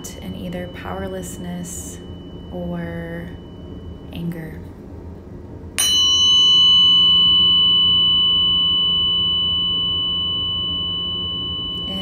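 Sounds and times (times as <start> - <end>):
tuning fork ringing: 0.0 - 4.8, 5.7 - 12.0.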